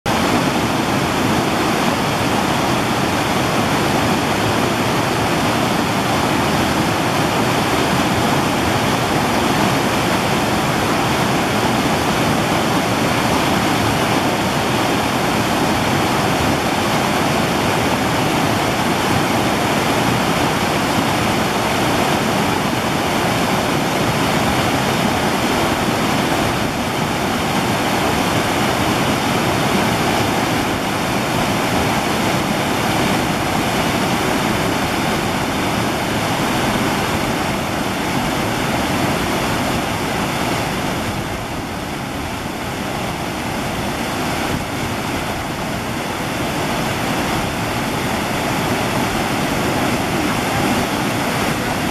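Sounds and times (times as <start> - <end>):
water rushing over boulders: 0.1 - 51.9.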